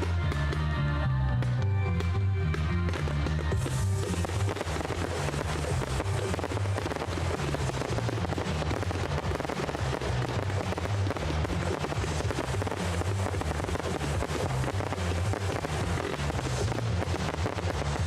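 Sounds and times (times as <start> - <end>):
fireworks crackling and popping: 0.0 - 0.7, 1.9 - 18.0
loud music with bass line: 0.0 - 18.0.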